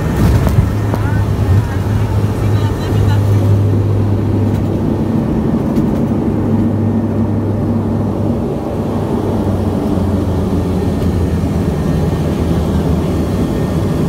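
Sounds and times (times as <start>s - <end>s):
turboprop engines and propellers running: 0.0s - 14.0s.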